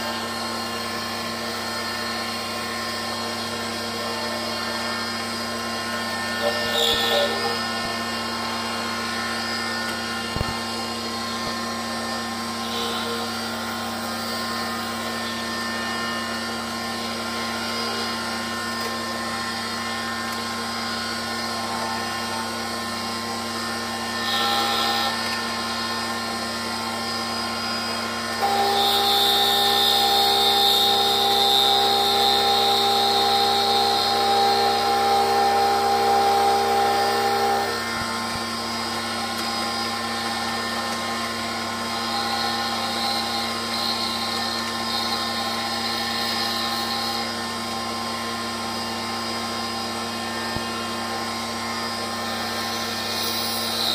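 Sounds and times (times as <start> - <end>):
lathe motor whine and hum: 0.0 - 53.9.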